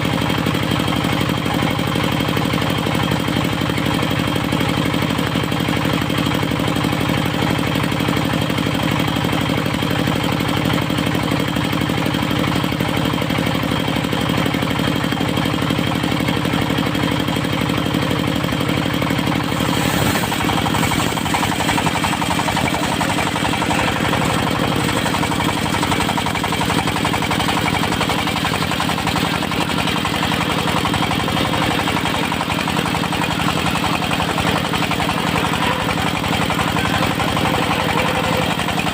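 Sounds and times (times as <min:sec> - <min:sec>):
sawmill running: 0:00.0 - 0:38.9.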